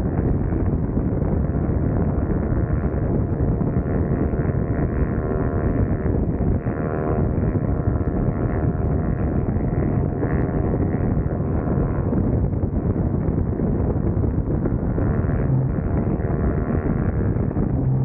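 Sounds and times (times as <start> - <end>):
motorcycle engine cruising: 0.0 - 18.0
wind rushing over microphone: 0.0 - 18.0.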